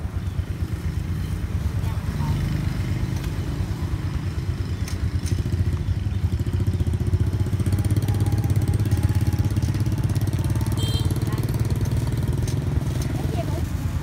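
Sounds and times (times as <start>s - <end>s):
motorbike engine idling: 0.0s - 14.0s.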